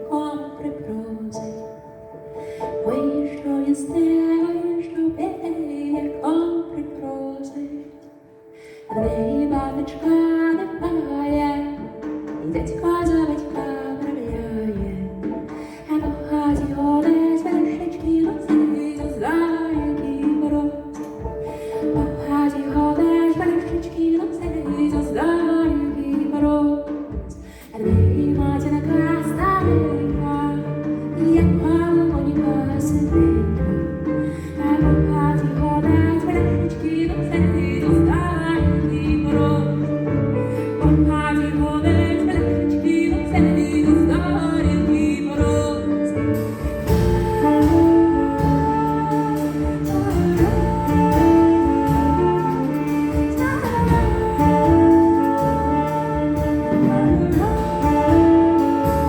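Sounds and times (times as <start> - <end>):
instrumental accompaniment: 0.0 - 59.0.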